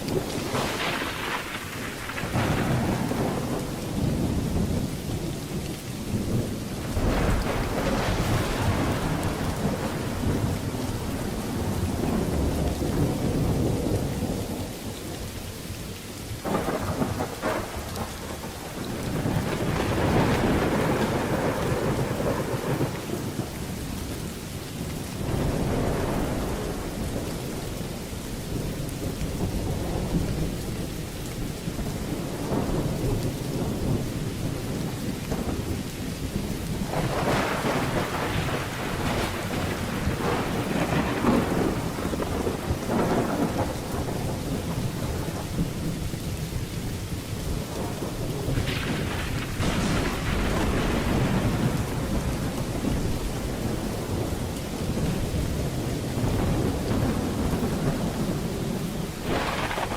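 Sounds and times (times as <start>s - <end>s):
rolling thunder: 0.0s - 15.2s, 16.4s - 24.2s, 24.8s - 59.9s
heavy rain: 0.0s - 59.9s.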